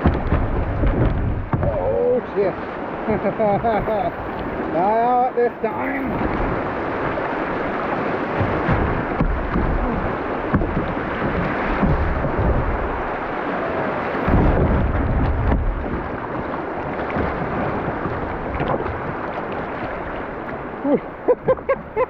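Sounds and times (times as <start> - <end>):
wind buffeting microphone: 0.0 - 4.9, 5.8 - 22.0
river rapids roaring: 0.0 - 21.8.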